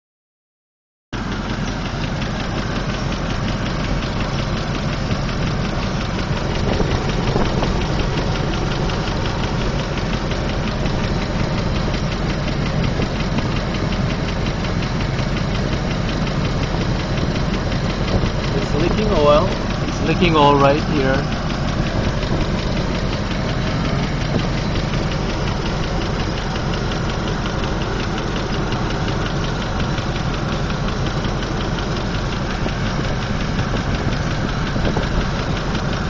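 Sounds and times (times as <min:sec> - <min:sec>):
car engine idling: 0:01.2 - 0:36.0
rapid engine ticking: 0:01.2 - 0:36.0.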